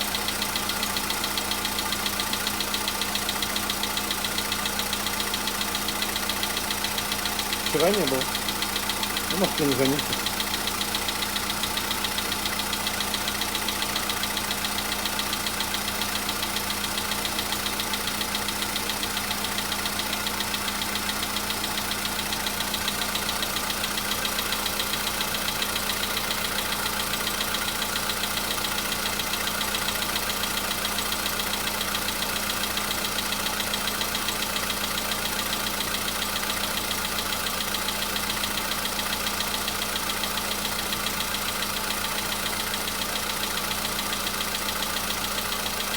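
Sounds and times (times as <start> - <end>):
car engine idling: 0.0 - 45.9
rapid engine tapping: 0.0 - 45.9.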